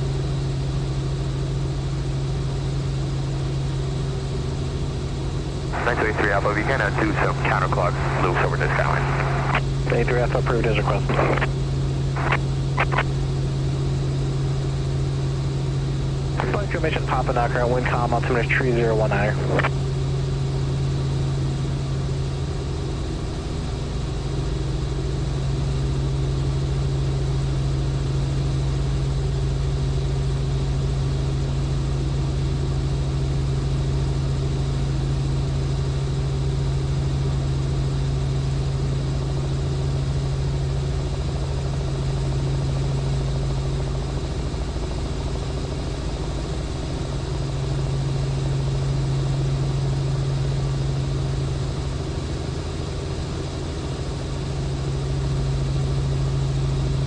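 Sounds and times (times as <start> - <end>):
helicopter cabin drone: 0.0 - 57.0.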